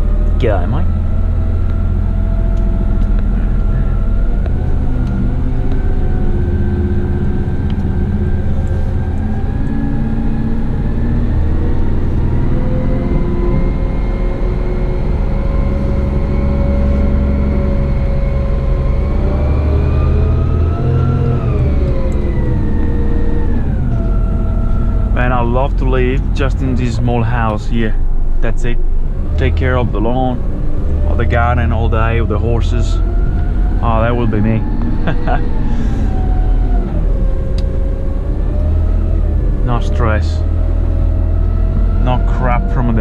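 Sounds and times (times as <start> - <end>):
truck diesel engine running: 0.0 - 43.0.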